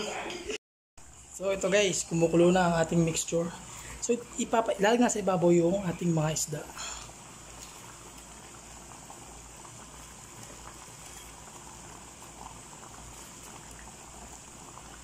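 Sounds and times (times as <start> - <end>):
sauce bubbling in a frying pan: 1.0 - 15.0.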